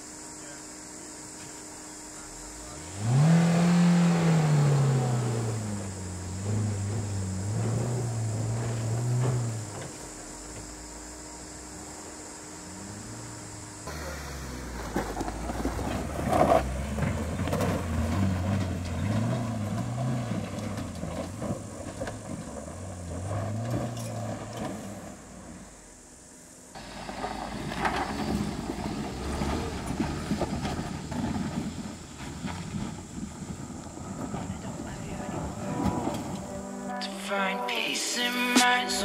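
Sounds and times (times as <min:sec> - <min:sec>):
car engine revving: 0:02.0 - 0:37.0.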